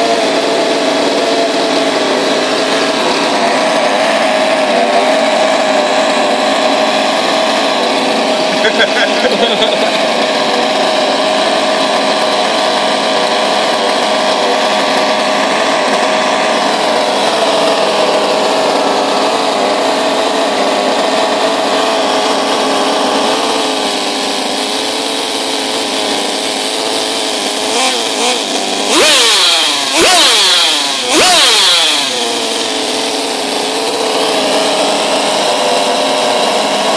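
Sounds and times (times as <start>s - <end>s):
model engine running and revving: 0.0s - 36.9s.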